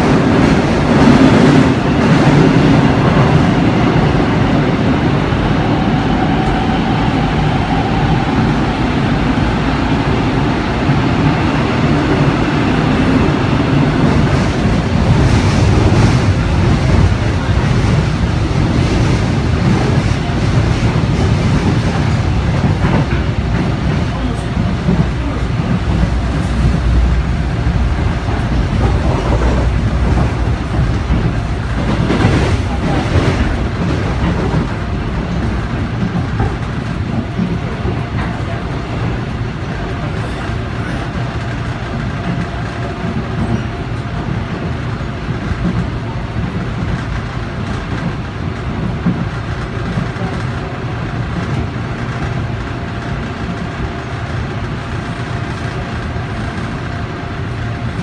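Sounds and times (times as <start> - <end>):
train wheels rumbling: 0.0 - 58.0
clickety-clack over rail joints: 10.0 - 58.0.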